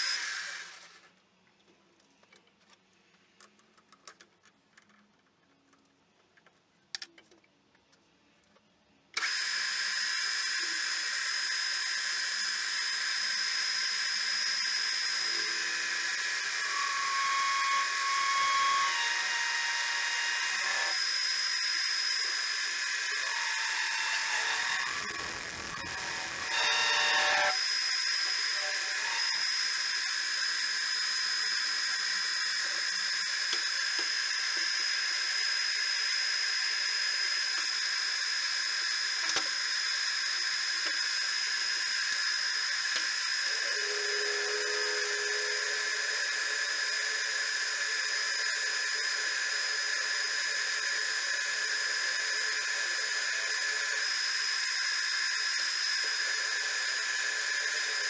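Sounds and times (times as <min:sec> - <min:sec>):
metal lathe whining: 0:09.2 - 0:58.0.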